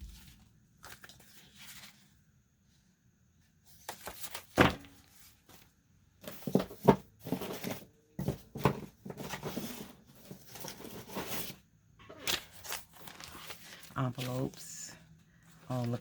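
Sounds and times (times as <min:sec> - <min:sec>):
paper rustling and sliding: 0:00.0 - 0:02.8, 0:03.6 - 0:16.0.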